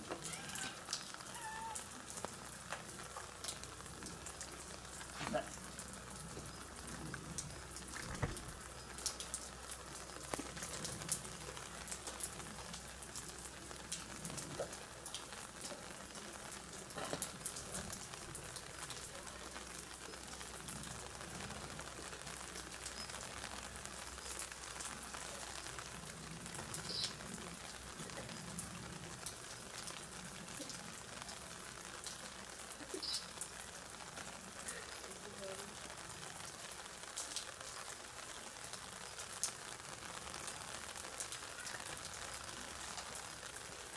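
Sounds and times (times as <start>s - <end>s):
light rain hissing: 0.0s - 43.9s.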